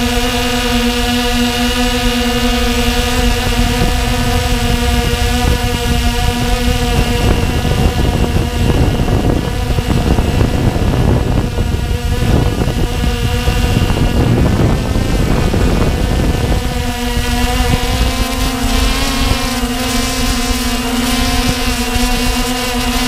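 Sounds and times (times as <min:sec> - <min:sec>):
air buffeting microphone: 0:00.0 - 0:23.0
drone motors whining: 0:00.0 - 0:23.0.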